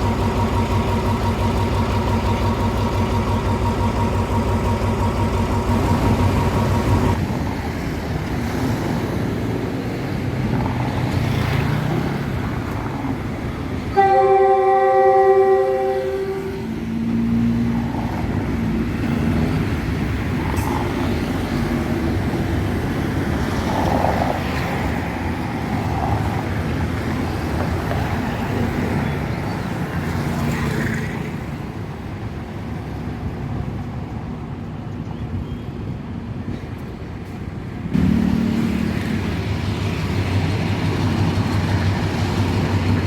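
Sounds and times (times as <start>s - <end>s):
traffic noise: 0.0s - 43.0s.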